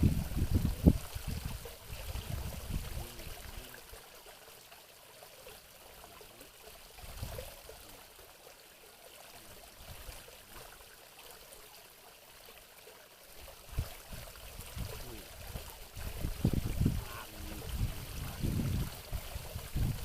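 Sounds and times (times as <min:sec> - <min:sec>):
water trickling into a pond: 0:00.0 - 0:20.0.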